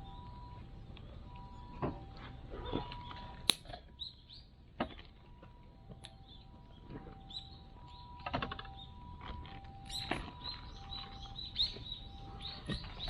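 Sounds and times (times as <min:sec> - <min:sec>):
small birds chirping: 0:00.0 - 0:05.4, 0:06.0 - 0:13.0.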